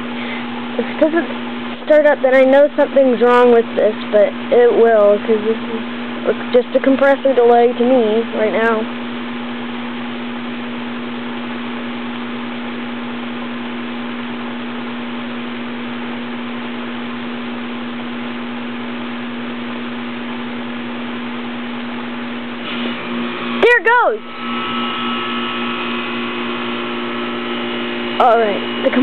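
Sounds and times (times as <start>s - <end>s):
fan air rushing: 0.0s - 29.0s
fan motor hum: 0.0s - 29.0s.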